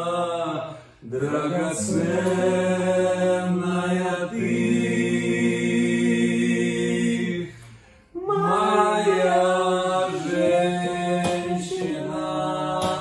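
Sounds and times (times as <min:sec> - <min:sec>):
men singing in harmony: 0:00.0 - 0:13.0.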